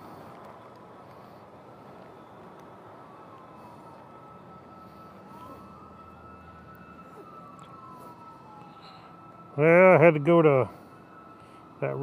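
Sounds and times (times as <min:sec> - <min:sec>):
background traffic hum: 0:00.0 - 0:12.0
faint emergency siren wailing: 0:00.0 - 0:12.0.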